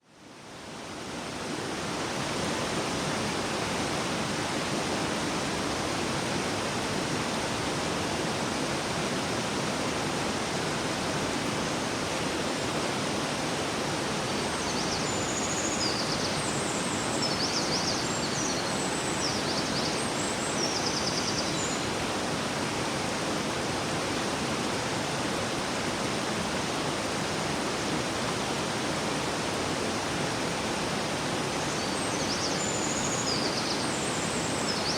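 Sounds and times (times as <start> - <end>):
river flowing: 0.2 - 34.9.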